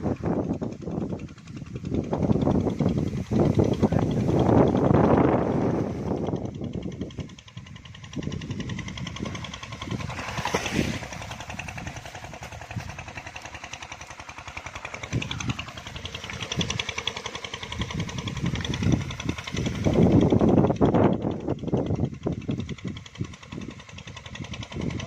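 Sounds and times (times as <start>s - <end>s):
engine chugging: 0.0s - 25.0s.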